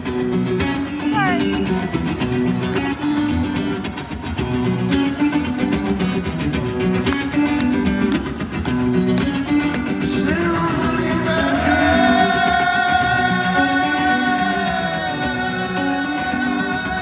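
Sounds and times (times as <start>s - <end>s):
acoustic guitar riff: 0.0s - 17.0s.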